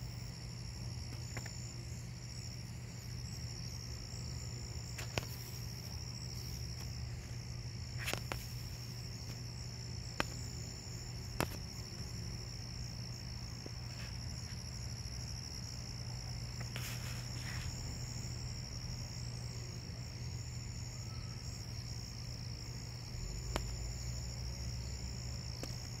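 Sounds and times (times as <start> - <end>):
high-pitched insect trill: 0.0 - 26.0
low steady hum: 0.0 - 26.0.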